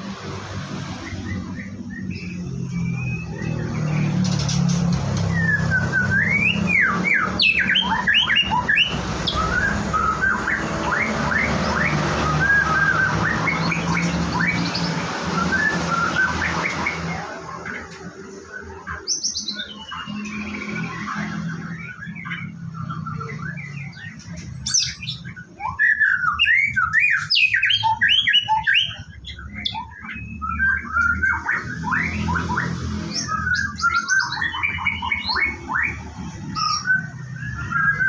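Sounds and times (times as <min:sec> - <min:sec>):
bird singing chirps and whistles: 0:00.7 - 0:38.0.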